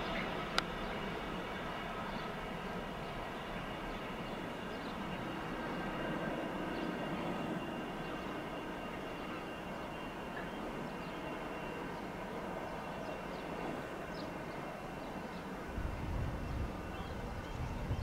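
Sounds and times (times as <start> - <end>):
train rumbling: 0.0 - 8.6, 9.2 - 18.0.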